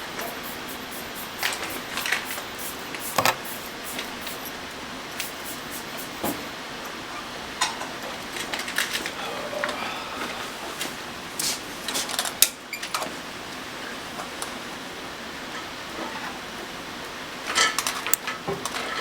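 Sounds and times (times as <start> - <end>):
room noise hiss: 0.0 - 19.0.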